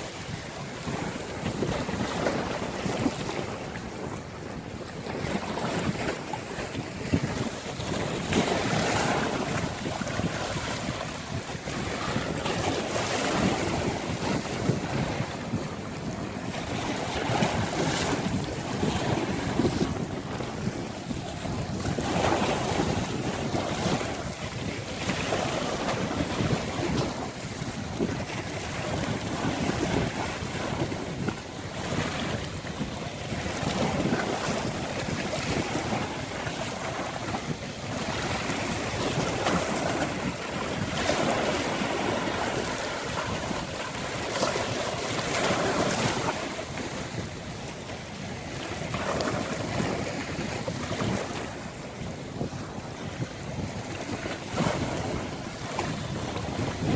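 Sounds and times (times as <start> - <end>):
sea waves washing onto beach: 0.0 - 56.9
wind buffeting microphone: 0.0 - 56.9.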